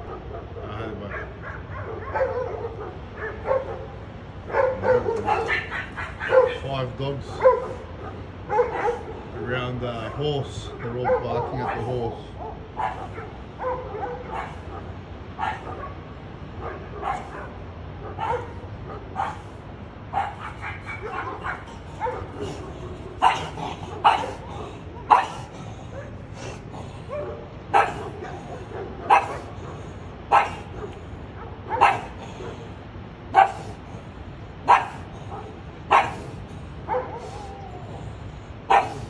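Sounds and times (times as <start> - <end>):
dogs barking: 0.0 - 39.0.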